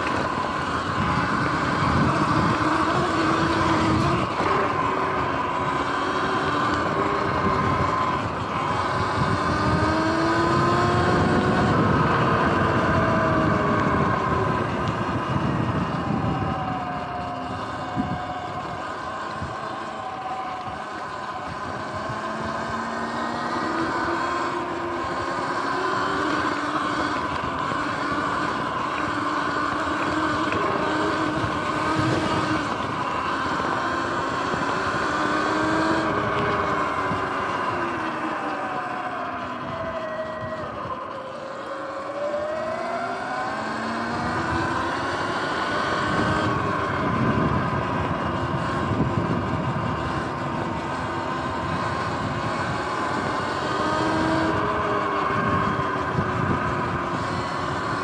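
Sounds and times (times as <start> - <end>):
electric motorbike drivetrain whining: 0.0 - 58.0
wind noise: 0.0 - 58.0.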